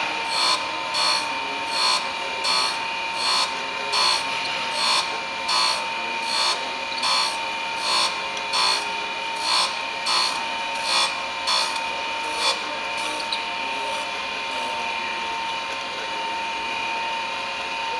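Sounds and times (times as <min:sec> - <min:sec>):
spinning wheel whine: 0:00.0 - 0:14.9
grinding wheel hissing on metal: 0:00.2 - 0:14.8.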